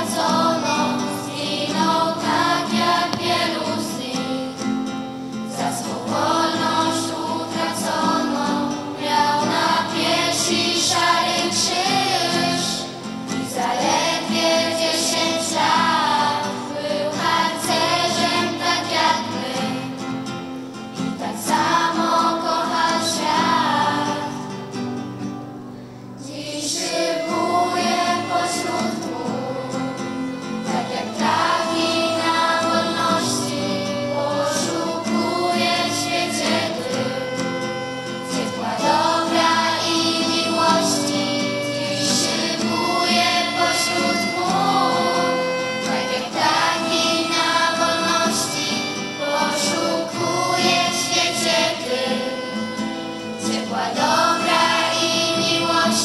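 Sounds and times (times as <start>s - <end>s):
girls' choir singing: 0.0s - 25.0s, 26.2s - 56.0s
violin accompaniment: 0.0s - 56.0s.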